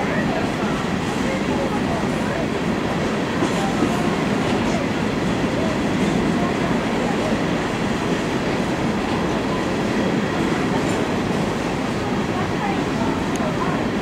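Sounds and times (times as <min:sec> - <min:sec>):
freight train wheels rumbling on rails: 0:00.0 - 0:14.0.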